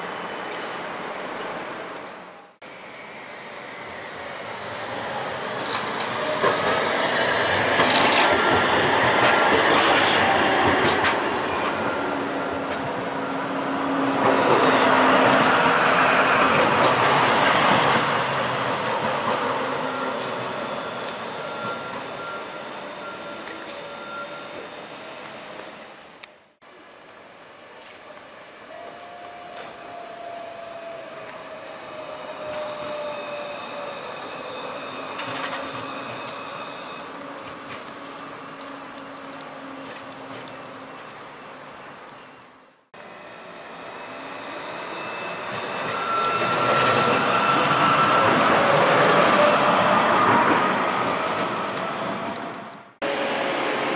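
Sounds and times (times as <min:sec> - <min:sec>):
tram rumbling on rails: 0:00.0 - 0:53.9.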